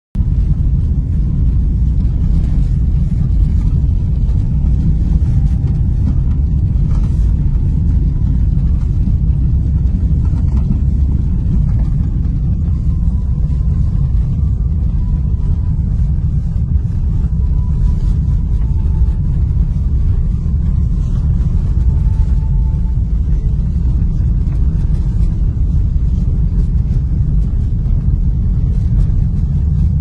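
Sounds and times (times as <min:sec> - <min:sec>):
car engine rumble: 0:00.1 - 0:30.0.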